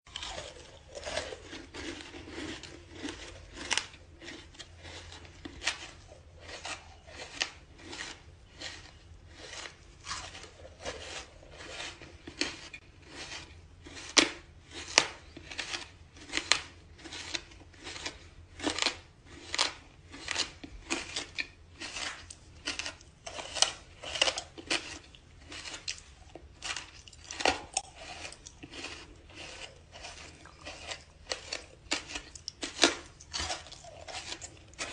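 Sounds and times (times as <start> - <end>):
crunchy chewing of dirt: 0.1 - 34.9.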